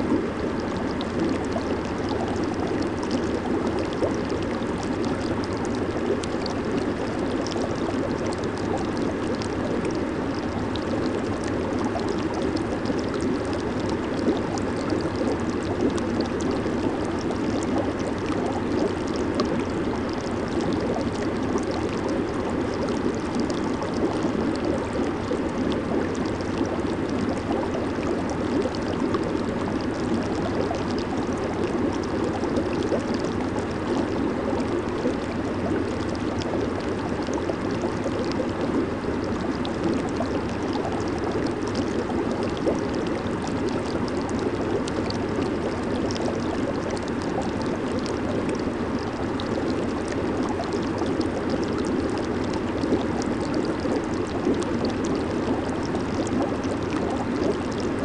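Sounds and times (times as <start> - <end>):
jacuzzi jets bubbling water: 0.0 - 58.0.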